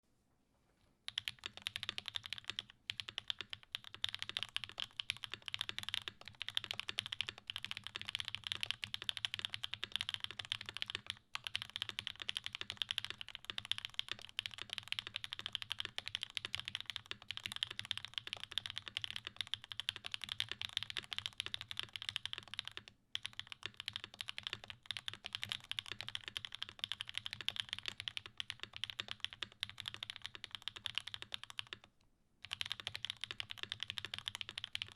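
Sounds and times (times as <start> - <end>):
mechanical keyboard typing: 1.1 - 34.9.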